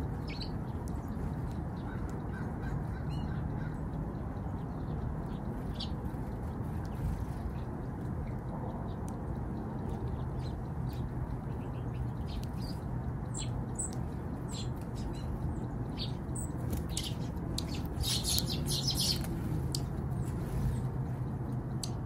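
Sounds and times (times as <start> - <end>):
low background rumble: 0.0 - 22.0
songbirds chip calls: 0.0 - 22.0.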